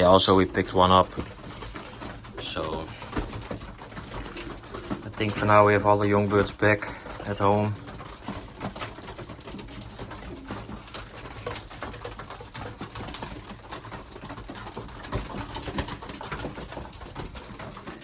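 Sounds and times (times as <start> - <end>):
birds clicking and tapping: 0.0 - 18.0
pigeons cooing: 0.0 - 18.0.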